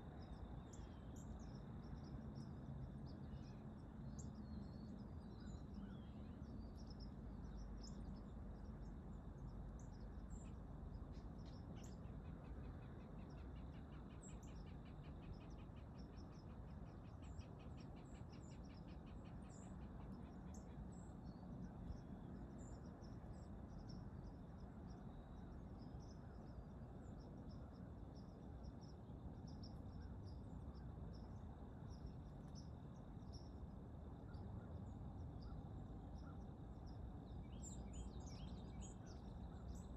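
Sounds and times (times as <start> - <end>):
low background hum: 0.0 - 39.9
thin insect tone: 0.1 - 39.9.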